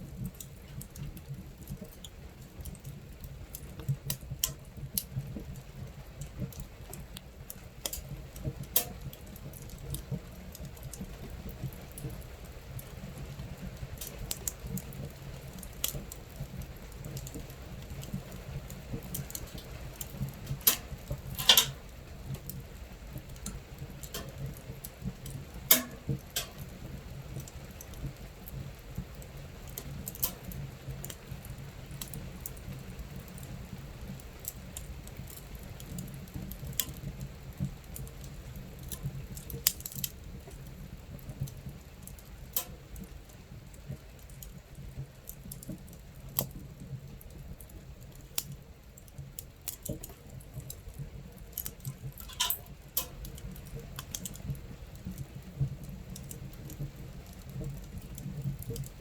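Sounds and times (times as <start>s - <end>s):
rain on a tent: 0.0s - 59.0s
wood fire crackling: 0.0s - 59.0s.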